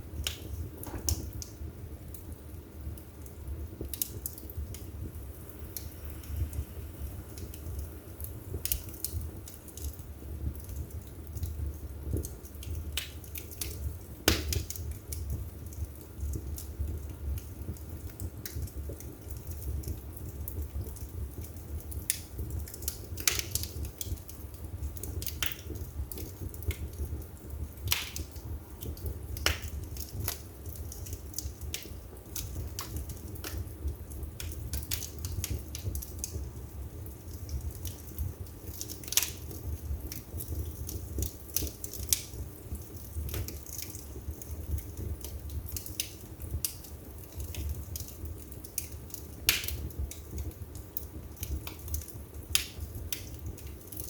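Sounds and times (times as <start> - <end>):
burning wood crackling: 0.0 - 54.0
low rumble of flames: 0.0 - 54.0.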